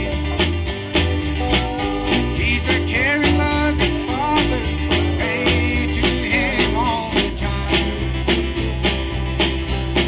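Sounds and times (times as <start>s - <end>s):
country gospel band playing: 0.0s - 10.0s
lead melody with bent notes: 0.0s - 10.0s.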